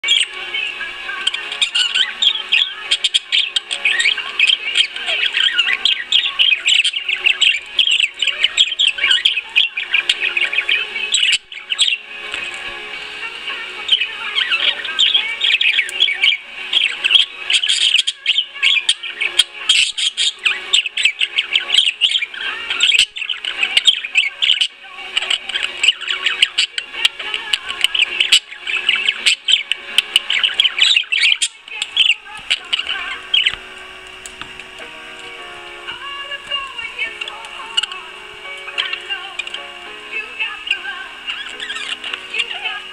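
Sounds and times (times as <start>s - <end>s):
budgerigar warbling: 0.0s - 42.9s.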